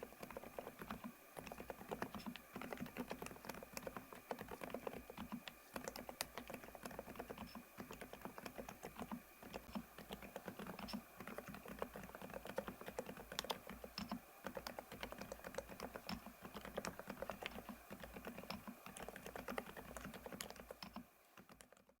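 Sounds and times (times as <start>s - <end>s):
fast typing on a keyboard: 0.0s - 22.0s.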